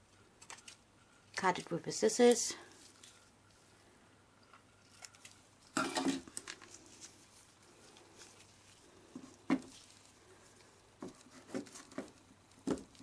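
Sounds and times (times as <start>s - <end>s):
tape rustling: 0.4s - 3.7s, 4.4s - 13.0s.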